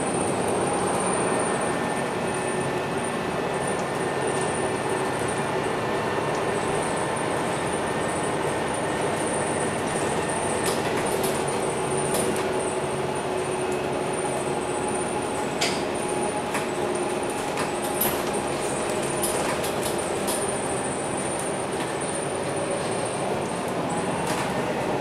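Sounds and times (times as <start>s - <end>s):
bus engine hum: 0.0s - 25.0s.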